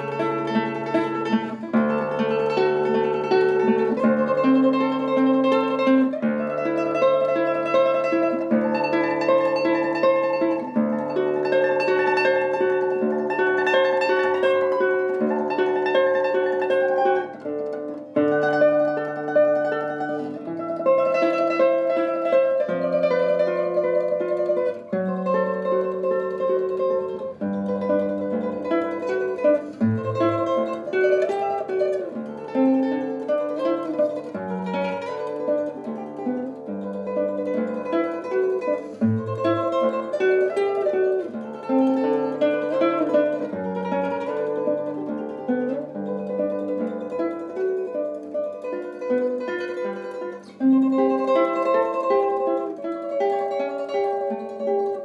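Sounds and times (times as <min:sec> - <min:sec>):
classical guitar tremolo melody: 0:00.0 - 0:55.0.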